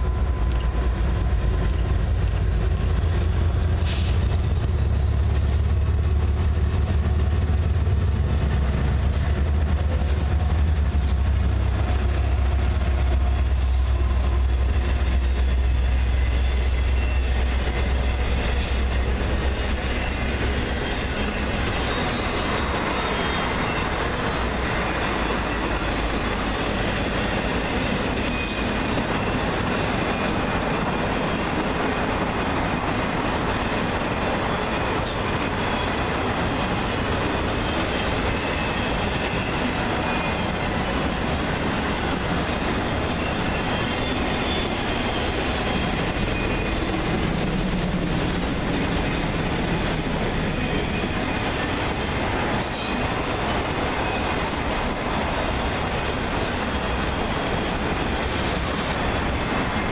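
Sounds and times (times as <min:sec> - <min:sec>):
freight train rumble: 0:00.0 - 0:59.9
train cars rolling and rattling: 0:00.0 - 0:59.9.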